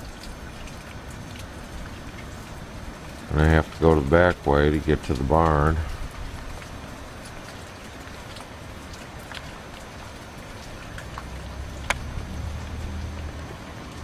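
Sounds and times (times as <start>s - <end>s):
drops ticking close by: 0.0s - 14.0s
steady rain: 0.0s - 14.0s.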